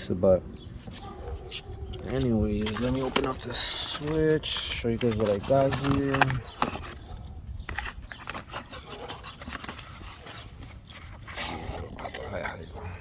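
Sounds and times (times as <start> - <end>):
packaging rustling: 0.8 - 12.7
light clicks and scrapes: 0.8 - 13.0.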